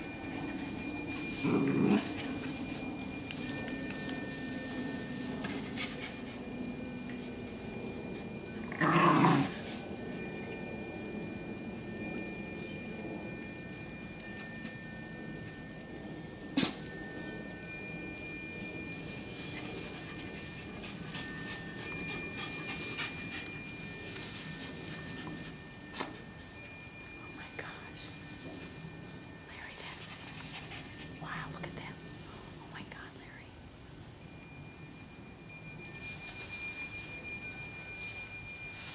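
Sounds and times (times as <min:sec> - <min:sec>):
small dogs play-wrestling in grass: 0:00.0 - 0:15.8, 0:16.4 - 0:32.6, 0:35.9 - 0:38.9
wind chimes ringing: 0:00.0 - 0:38.9.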